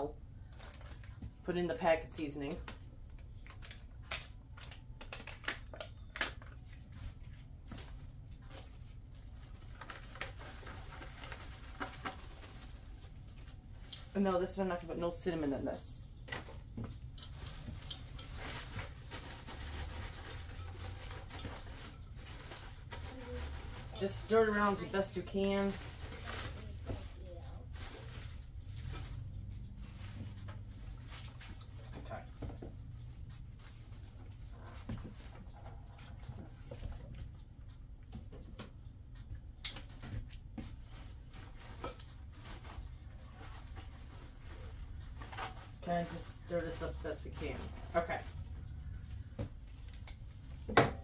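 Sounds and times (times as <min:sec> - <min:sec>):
plastic bag rustling and crinkling: 0:00.4 - 0:01.5, 0:02.5 - 0:14.9, 0:16.3 - 0:37.0, 0:40.6 - 0:51.0.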